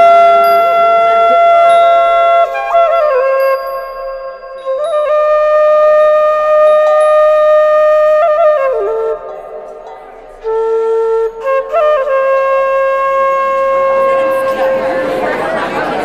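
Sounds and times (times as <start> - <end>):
solo flute playing: 0.0 - 15.4.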